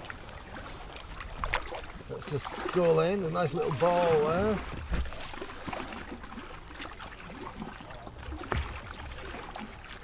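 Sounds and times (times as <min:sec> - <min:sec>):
paddle splashing water: 0:00.0 - 0:10.0.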